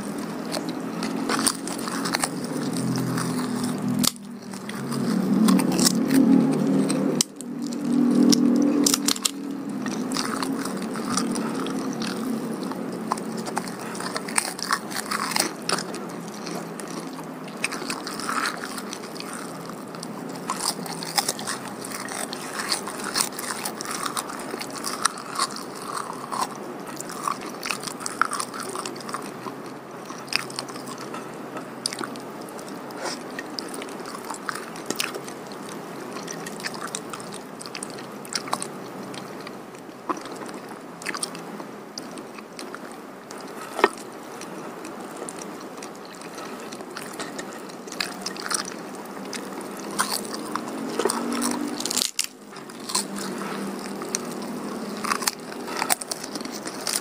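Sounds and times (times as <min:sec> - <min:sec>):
crunches of chewed food: 0:00.0 - 0:57.0
person chewing food: 0:00.0 - 0:57.0.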